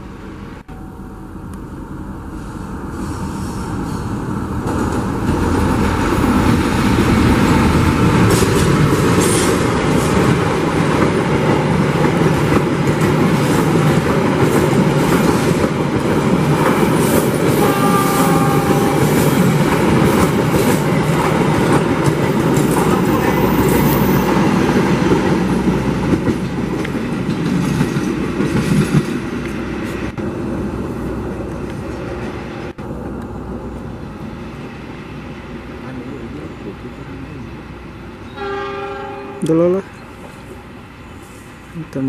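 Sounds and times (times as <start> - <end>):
passenger train passing: 0.0 - 42.0.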